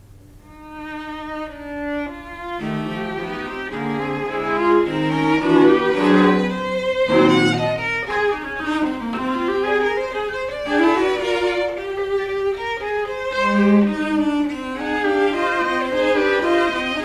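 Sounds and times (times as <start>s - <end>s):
low cello note: 0.4s - 17.0s
string trio bowed notes: 0.4s - 17.0s.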